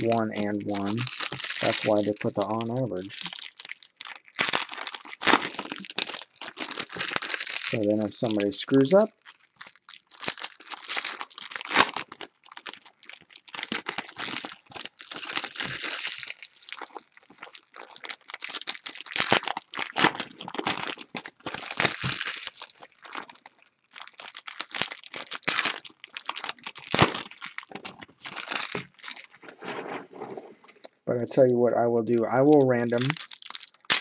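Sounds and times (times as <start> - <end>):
foil wrappers tearing and crinkling: 0.0 - 29.5, 32.4 - 34.0.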